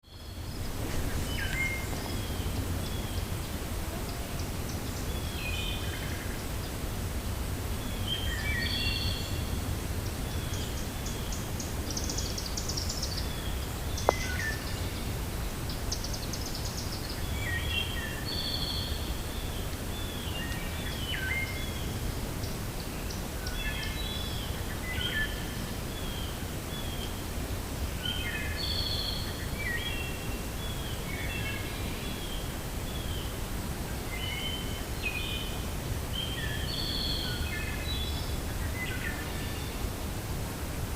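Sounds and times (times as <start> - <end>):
songbirds chirping: 0.0 - 40.9
wind blowing through forest: 0.0 - 40.9.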